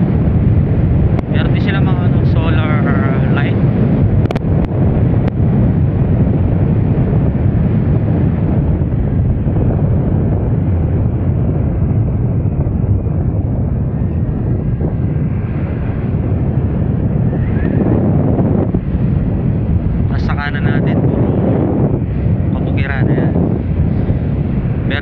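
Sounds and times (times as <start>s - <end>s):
road noise: 0.0s - 25.0s
wind rumble on microphone: 0.0s - 25.0s.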